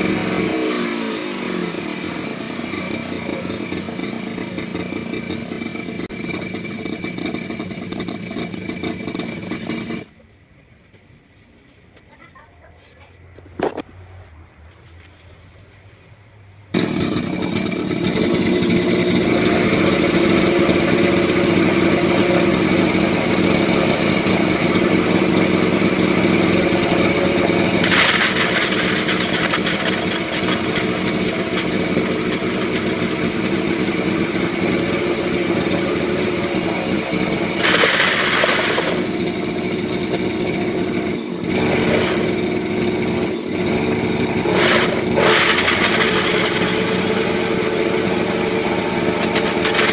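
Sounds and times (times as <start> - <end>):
small engine driving grinder: 0.0 - 10.2, 16.7 - 49.9.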